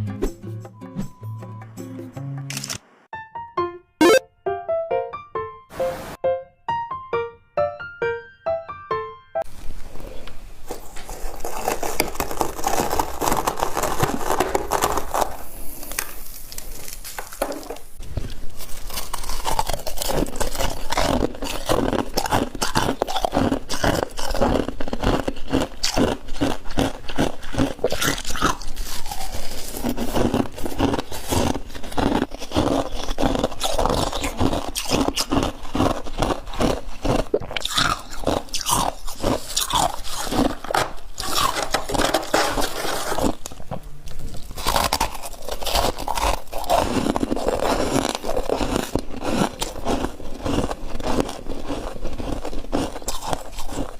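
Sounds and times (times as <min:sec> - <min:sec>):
person crunching ice: 0:10.1 - 0:53.9.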